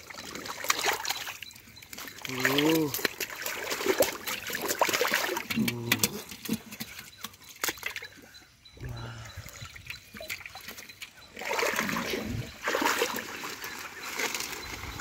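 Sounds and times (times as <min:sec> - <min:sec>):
muddy water splashing: 0:00.0 - 0:15.0.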